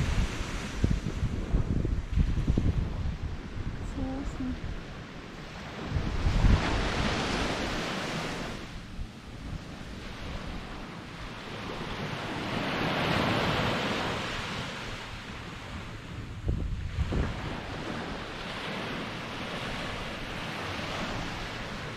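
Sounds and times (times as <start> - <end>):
waves washing on beach: 0.0 - 21.9
wind buffeting microphone: 0.0 - 21.9.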